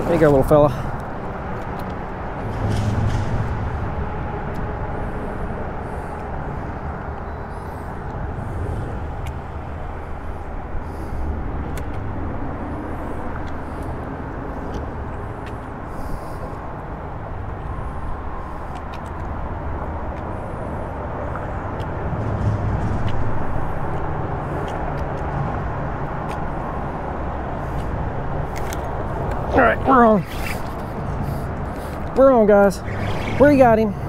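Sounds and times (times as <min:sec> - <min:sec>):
traffic rumble on bridge: 0:00.0 - 0:34.0.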